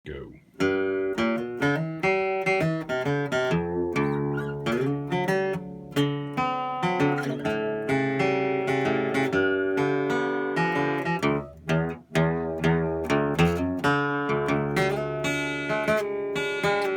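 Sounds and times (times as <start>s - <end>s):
acoustic guitar playing: 0.3s - 16.9s.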